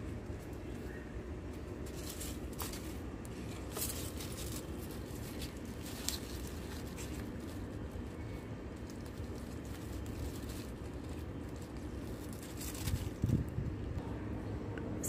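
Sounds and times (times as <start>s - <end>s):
leaves and soil rustling: 0.0s - 14.0s
steady low rumble: 0.0s - 15.0s.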